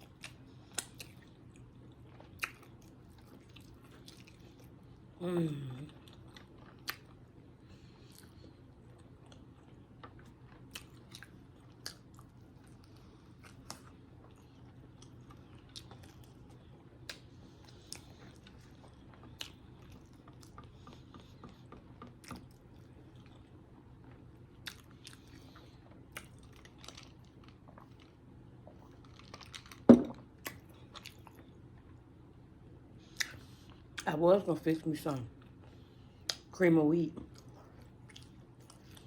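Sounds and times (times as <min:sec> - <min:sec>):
chewing mouth noises: 0:00.0 - 0:04.9, 0:05.9 - 0:29.8, 0:30.4 - 0:32.0, 0:37.3 - 0:39.0
low steady hum: 0:00.0 - 0:39.0.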